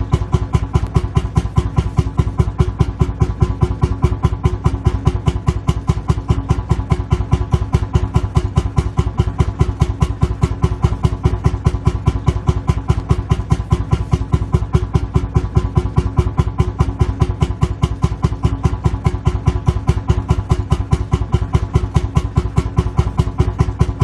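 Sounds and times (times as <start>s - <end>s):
engine idling with slow thumping: 0.0s - 24.0s.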